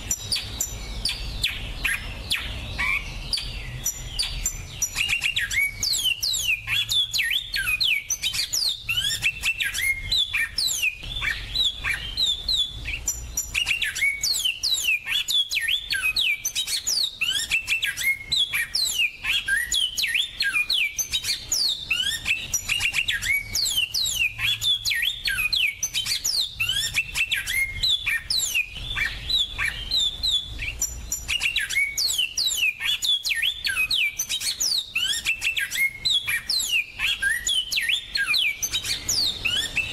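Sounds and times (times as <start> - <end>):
finches singing: 0.0 - 39.9.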